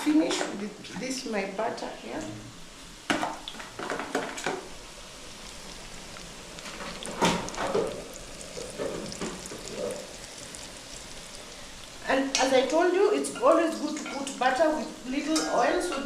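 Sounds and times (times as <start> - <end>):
butter sizzling in a frying pan: 2.6 - 16.0.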